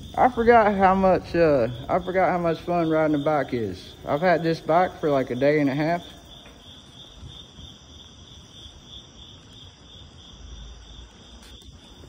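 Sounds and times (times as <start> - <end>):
bicycle rolling on concrete: 0.0 - 12.0
crickets chirring: 0.0 - 12.0.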